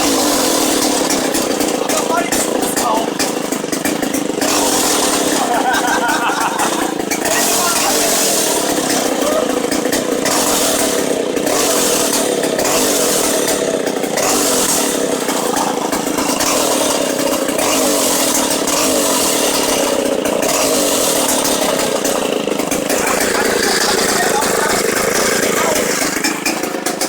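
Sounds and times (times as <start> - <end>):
chainsaw engine running: 0.0 - 27.0.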